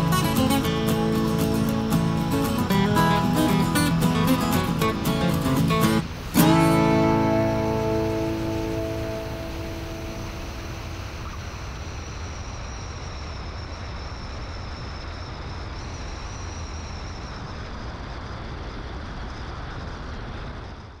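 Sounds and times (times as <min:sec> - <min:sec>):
faint high whine: 0:00.0 - 0:21.0
light aircraft engine and propeller: 0:00.0 - 0:21.0.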